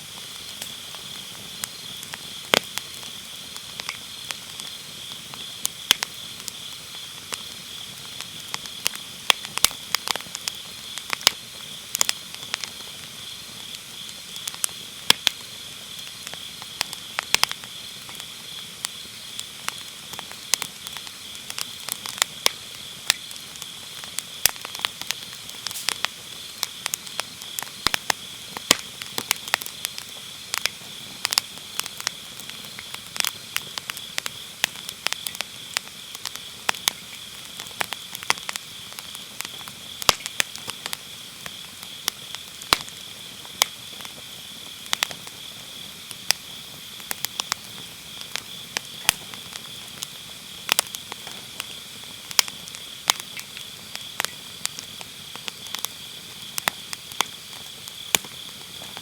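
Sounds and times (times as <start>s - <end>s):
firewood crackling and popping: 0.0s - 59.0s
insects trilling: 0.0s - 59.0s.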